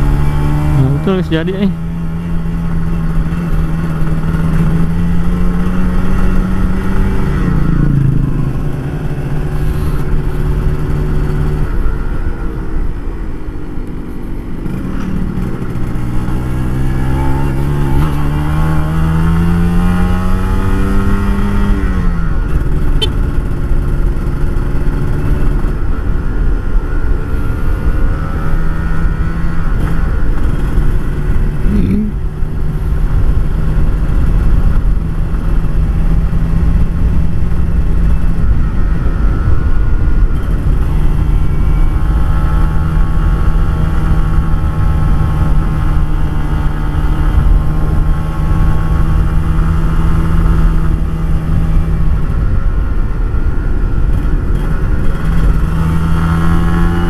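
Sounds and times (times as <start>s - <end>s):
two-stroke motorcycle engine revving: 0.0s - 12.4s, 14.6s - 57.0s.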